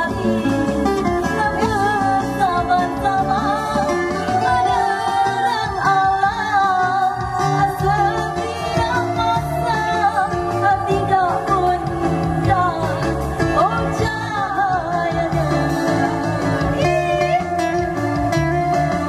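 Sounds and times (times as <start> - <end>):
instrumental accompaniment: 0.0 - 19.0
woman singing into a microphone: 0.0 - 19.0.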